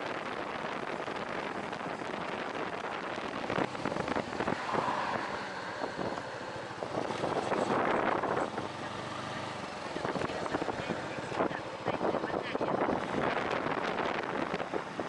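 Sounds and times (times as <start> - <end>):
wind on microphone: 0.0 - 9.1, 9.8 - 15.0
vehicle running: 0.0 - 15.0.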